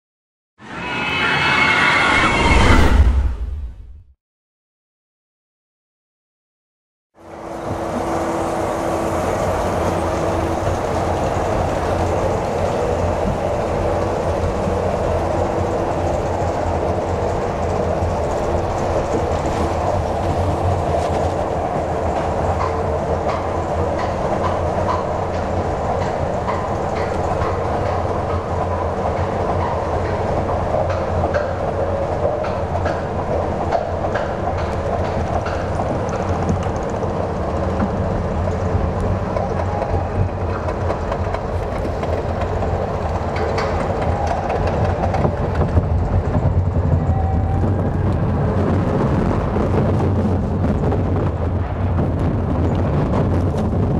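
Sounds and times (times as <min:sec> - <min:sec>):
roller coaster rumbling on track: 0:07.2 - 0:53.9.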